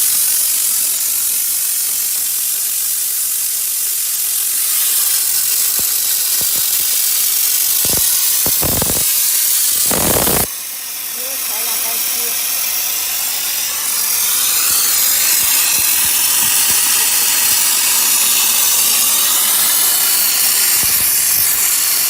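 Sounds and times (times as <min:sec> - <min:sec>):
steam gun hissing: 0:00.0 - 0:22.0.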